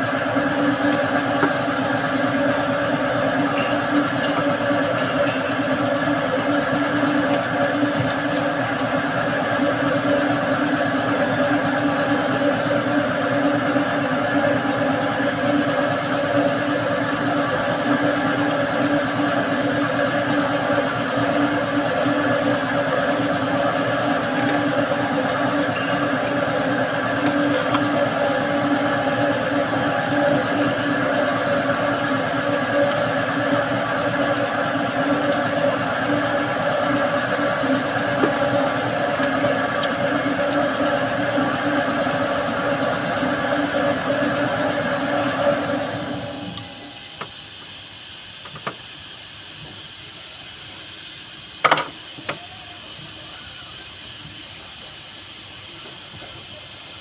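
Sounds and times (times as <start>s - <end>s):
diesel engine running: 0.0s - 48.4s.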